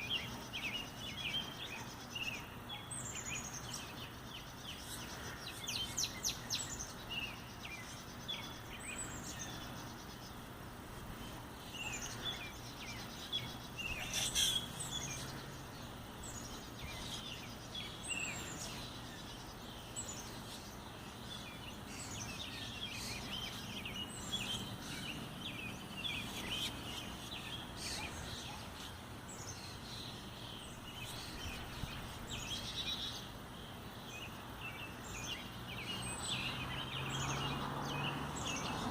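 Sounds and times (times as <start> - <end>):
outdoor background hiss: 0.0 - 38.9
songbirds chirping: 0.0 - 38.9.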